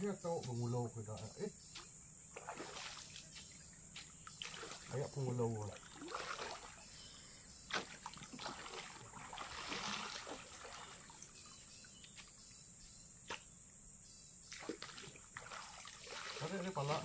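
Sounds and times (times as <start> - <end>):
river water trickling: 0.5 - 17.0.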